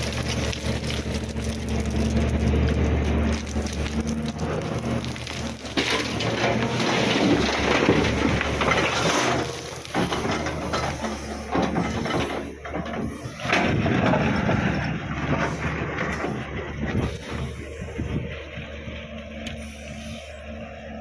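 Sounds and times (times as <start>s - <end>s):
stones and earth crunching: 0.0s - 20.4s
diesel engine running: 0.0s - 21.0s.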